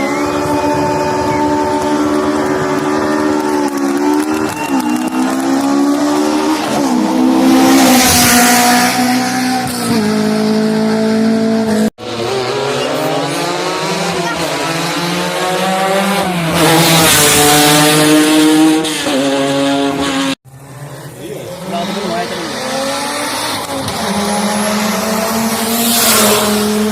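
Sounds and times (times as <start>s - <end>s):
rally car engines revving: 0.0s - 26.9s.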